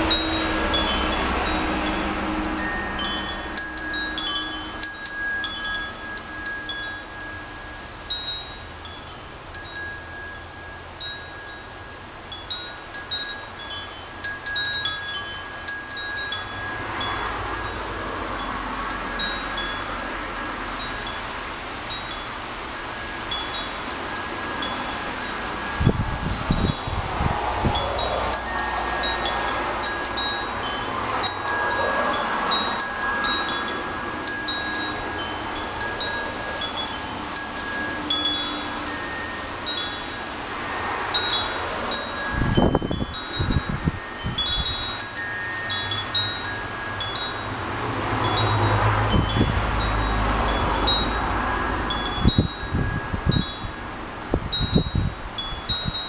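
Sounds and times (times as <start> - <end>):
metal wind chime ringing: 0.0 - 56.0
wind gusts on microphone: 0.0 - 56.0.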